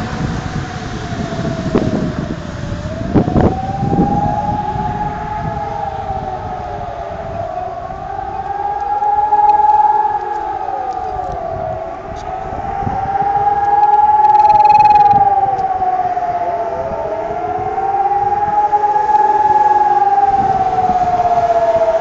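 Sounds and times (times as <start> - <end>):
civil defence sirens wailing: 0.0 - 22.0.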